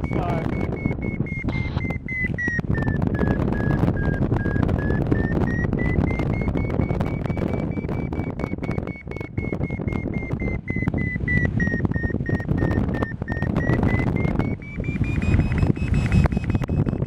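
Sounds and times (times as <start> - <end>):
variometer beeping: 0.0 - 17.0
wind noise on microphone: 0.0 - 17.0.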